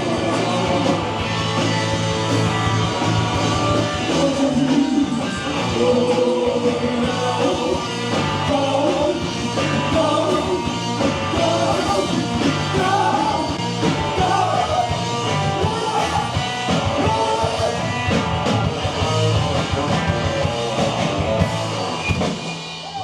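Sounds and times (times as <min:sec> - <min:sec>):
bass: 0:00.0 - 0:23.0
drums: 0:00.0 - 0:23.0
loud electric guitar: 0:00.0 - 0:23.0.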